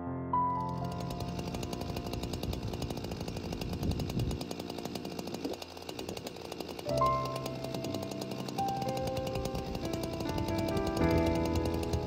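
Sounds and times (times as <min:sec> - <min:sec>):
chainsaw cutting ice: 0:00.5 - 0:12.0.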